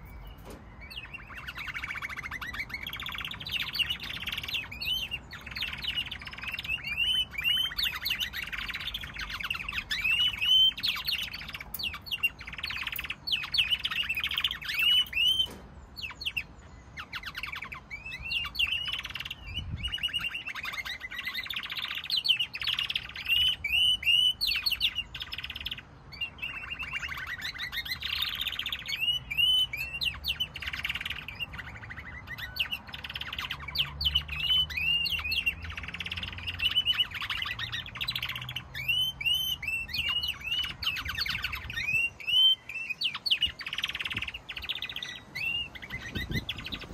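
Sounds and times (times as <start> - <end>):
canaries singing trills and chirps: 0.0 - 46.9.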